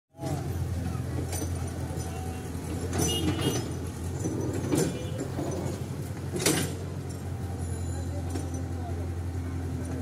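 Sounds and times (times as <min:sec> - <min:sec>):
excavator bucket clanks and scrapes: 0:00.2 - 0:08.8
excavator diesel engine running: 0:00.2 - 0:10.0.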